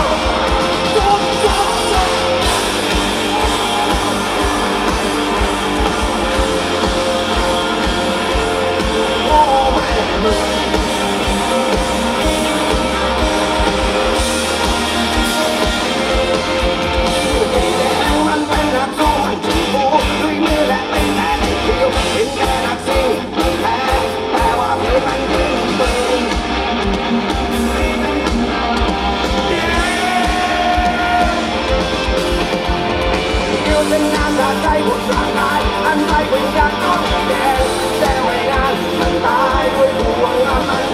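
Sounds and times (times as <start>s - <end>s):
person singing: 0.0s - 26.4s, 33.6s - 40.9s
rock band playing live: 0.0s - 40.9s.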